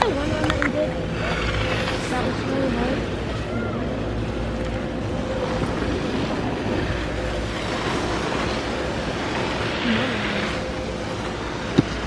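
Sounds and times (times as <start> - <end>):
faint steady hum: 0.0 - 12.0
wind rushing on microphone: 0.0 - 12.0.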